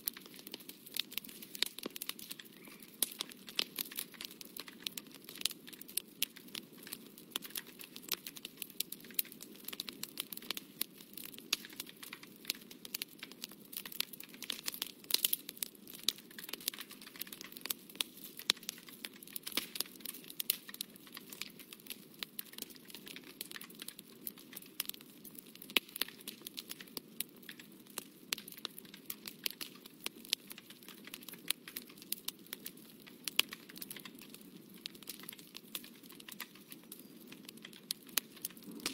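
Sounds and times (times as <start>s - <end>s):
dense crackling and crinkling: 0.0s - 38.9s.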